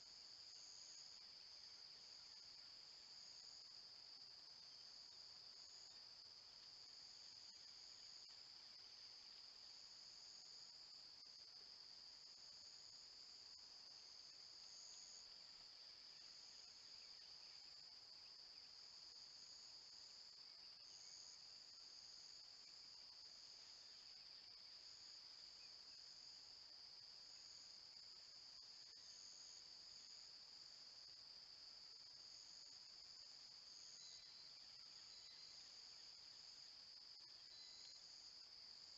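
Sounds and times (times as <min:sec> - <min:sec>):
high insect buzz: 0:00.0 - 0:38.9
insect trill: 0:00.0 - 0:38.9.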